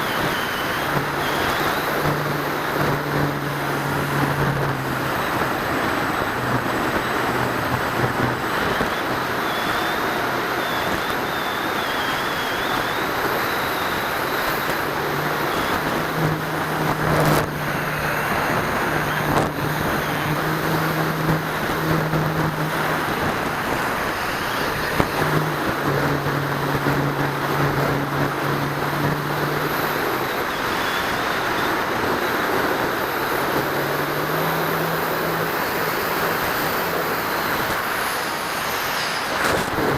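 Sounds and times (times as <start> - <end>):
electric motors and propellers humming: 0.0 - 39.9
wind rush over microphone: 0.0 - 39.9.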